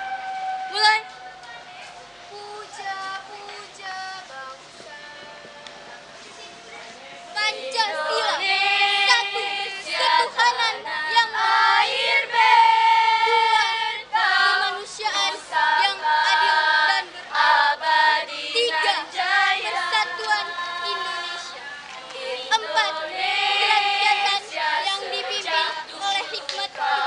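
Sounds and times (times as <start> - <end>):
girls singing together: 2.2 - 6.3, 7.2 - 27.0.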